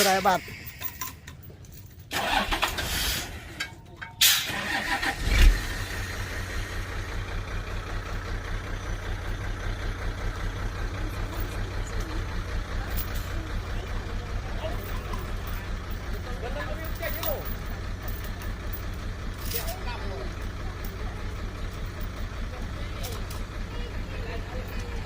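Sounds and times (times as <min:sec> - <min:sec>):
heavy machine engine running: 0:00.0 - 0:25.0.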